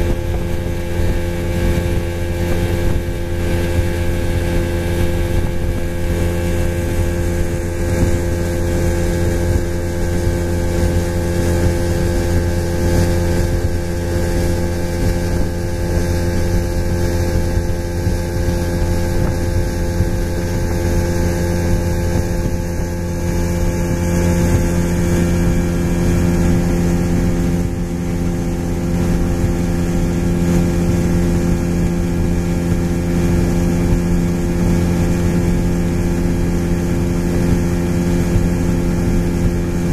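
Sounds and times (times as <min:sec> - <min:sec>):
outboard motor running steadily: 0:00.0 - 0:39.9.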